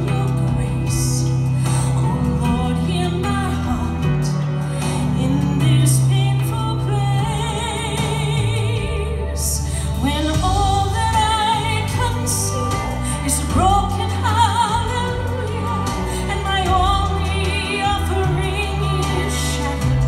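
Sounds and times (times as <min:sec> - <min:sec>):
woman singing into a microphone: 0:00.0 - 0:20.0.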